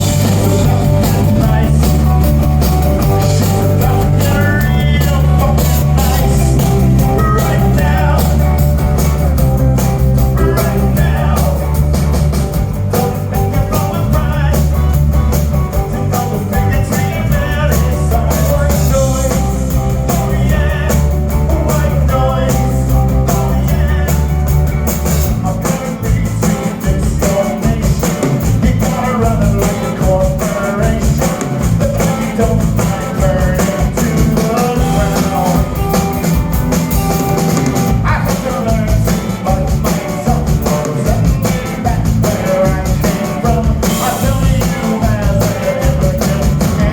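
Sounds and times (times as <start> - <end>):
person singing: 0.0 - 15.0, 15.6 - 36.2, 37.8 - 46.9
bass and drum groove: 0.0 - 46.9
guitar: 0.0 - 46.9
live rock band playing: 0.0 - 46.9.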